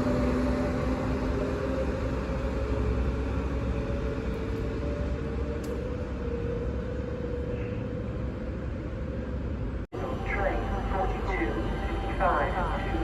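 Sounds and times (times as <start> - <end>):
faint train hum: 0.0 - 13.0
train rumbling past: 0.0 - 13.0.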